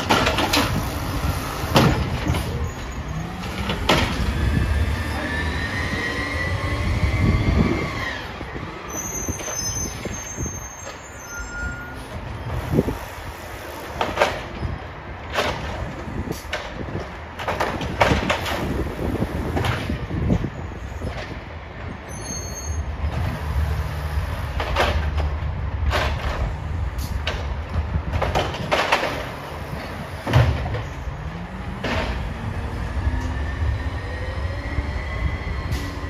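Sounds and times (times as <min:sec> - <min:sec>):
truck engine rumble: 0:00.0 - 0:36.0.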